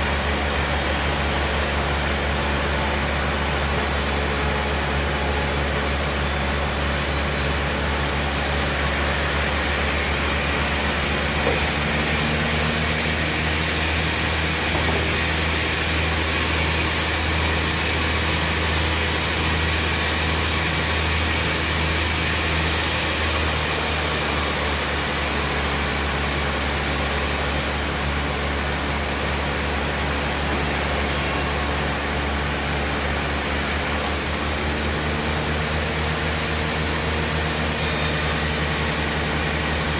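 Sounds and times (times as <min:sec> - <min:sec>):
sawmill machine hum: 0:00.0 - 0:39.9.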